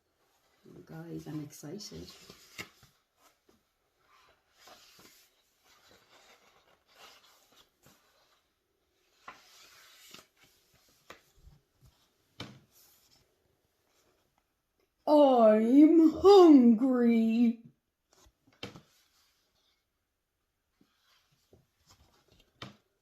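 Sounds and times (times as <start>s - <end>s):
book pages rustling and turning: 0.0s - 14.9s, 18.0s - 20.0s, 20.6s - 23.0s.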